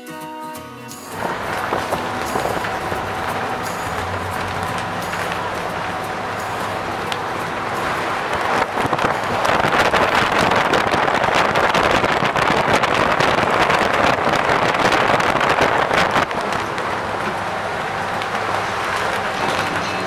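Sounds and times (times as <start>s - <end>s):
bus engine: 1.1s - 20.0s
road noise: 1.1s - 20.0s
wind buffeting microphone: 1.2s - 20.0s.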